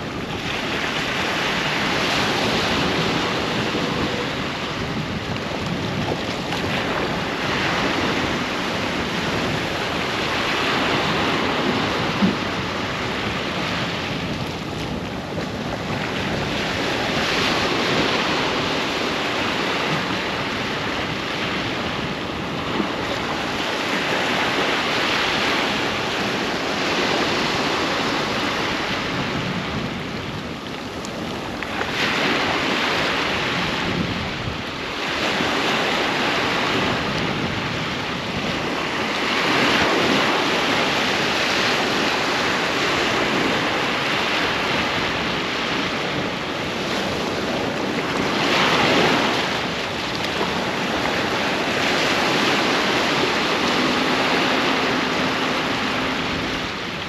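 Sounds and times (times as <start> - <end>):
ocean waves washing up beach: 0.0 - 57.0
wind on microphone: 0.0 - 57.0.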